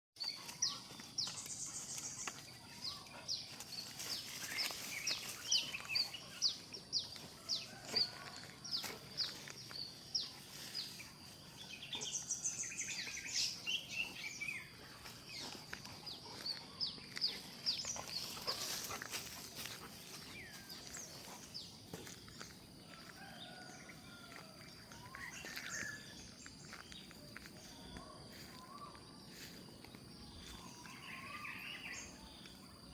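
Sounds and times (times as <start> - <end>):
small birds chirping: 0.2 - 32.9.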